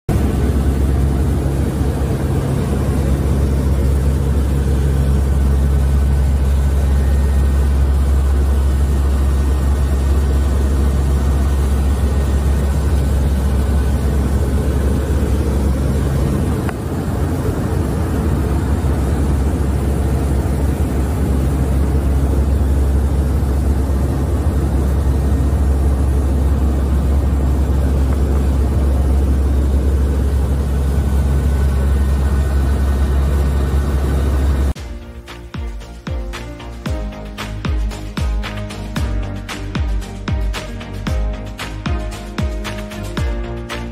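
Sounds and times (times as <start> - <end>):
turboprop engines droning: 0.1 - 43.9.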